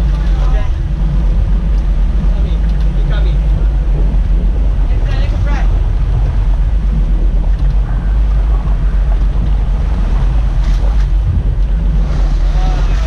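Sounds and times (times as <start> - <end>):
boat engine low rumble: 0.0 - 13.0
wind buffeting microphone: 0.0 - 13.0.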